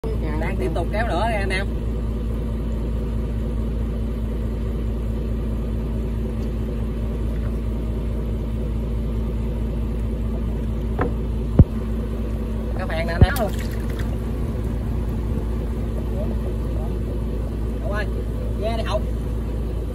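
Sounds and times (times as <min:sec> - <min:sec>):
boat engine running: 0:00.0 - 0:19.9.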